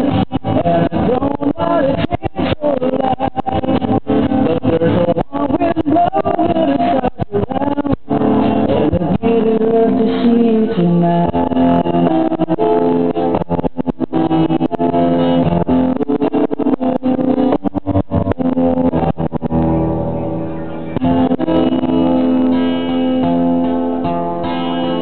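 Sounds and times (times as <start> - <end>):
guitar music with strums: 0.0 - 25.0.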